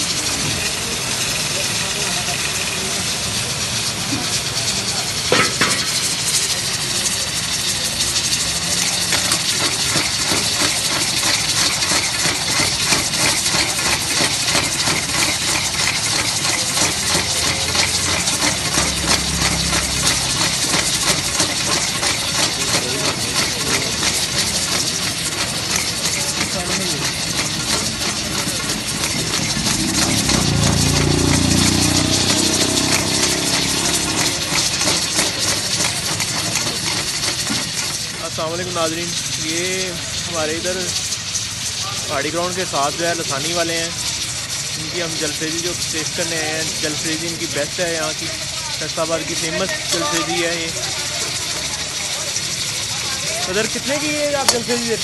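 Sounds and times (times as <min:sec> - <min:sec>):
chicken sizzling in hot oil: 0:00.0 - 0:55.0
metal ladle stirring: 0:04.3 - 0:55.0.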